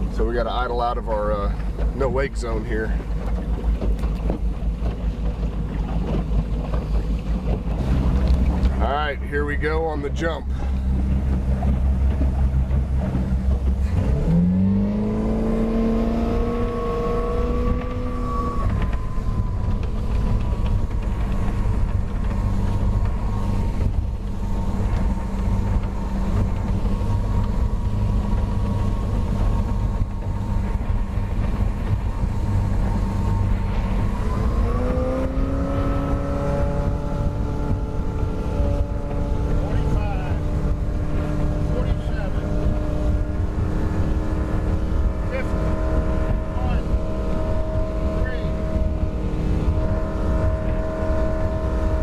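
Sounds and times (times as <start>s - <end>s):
boat engine revving: 0.0s - 52.0s.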